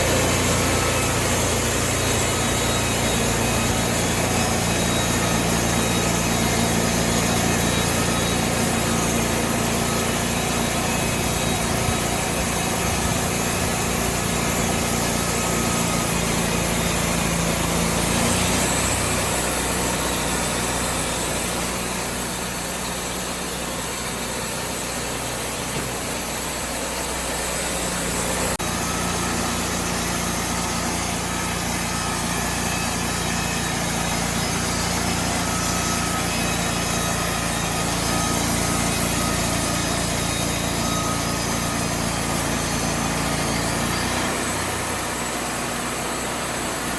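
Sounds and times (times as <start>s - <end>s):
blade sawing through log: 0.0s - 46.9s
sawmill engine running: 0.0s - 46.9s.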